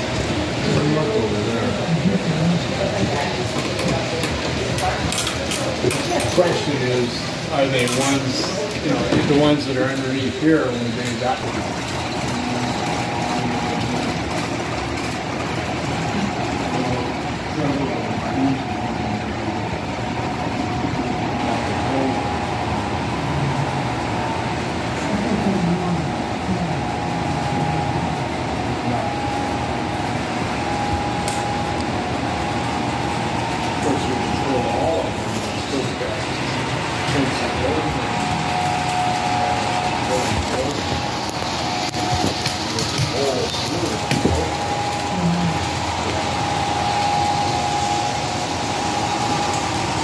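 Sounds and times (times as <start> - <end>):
model train cars rolling on track: 0.0 - 50.0
steady high tone: 0.0 - 50.0.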